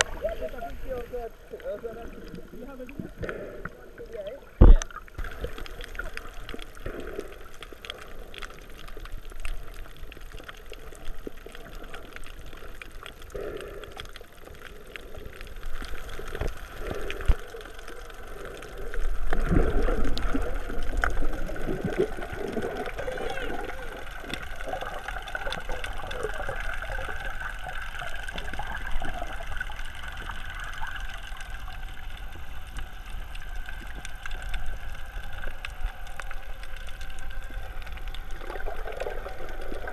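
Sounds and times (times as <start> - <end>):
water gurgling and bubbling: 0.0 - 39.9.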